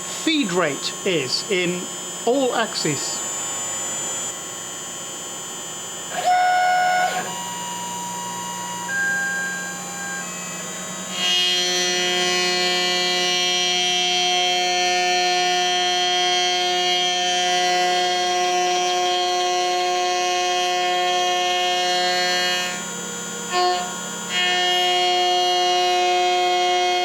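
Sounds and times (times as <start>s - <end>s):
router spindle high whine: 0.0s - 22.0s.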